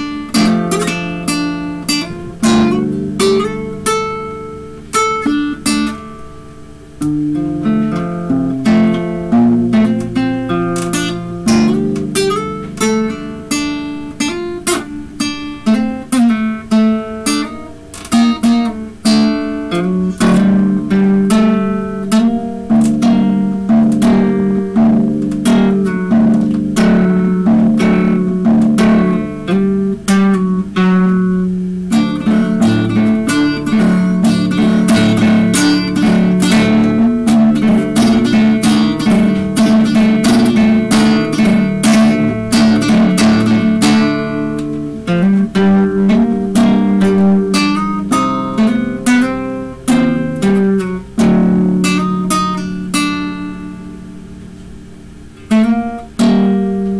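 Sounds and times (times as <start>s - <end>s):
acoustic guitar strumming: 0.0s - 56.9s.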